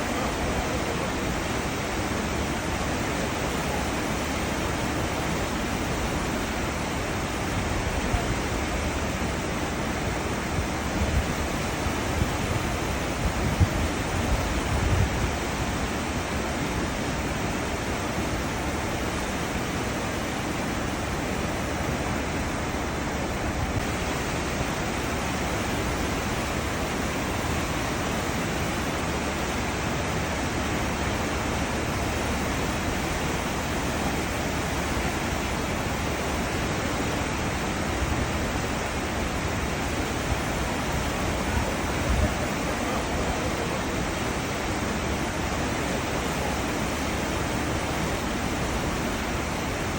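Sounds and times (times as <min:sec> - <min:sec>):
churning seawater rushing: 0:00.0 - 0:49.9.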